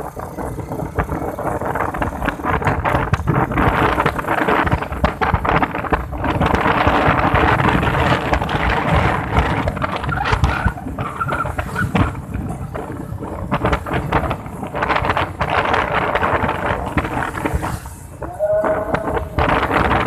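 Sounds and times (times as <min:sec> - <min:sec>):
vehicle running: 0:00.0 - 0:20.0
wind buffeting microphone: 0:00.0 - 0:20.0
knocks and rattles from bumps: 0:00.3 - 0:17.7.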